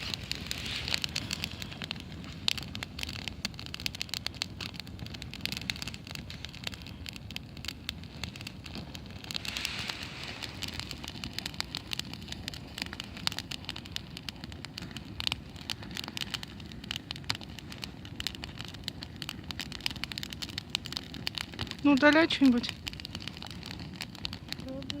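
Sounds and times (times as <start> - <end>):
campfire crackling: 0.0 - 25.0
low rumble: 0.0 - 25.0.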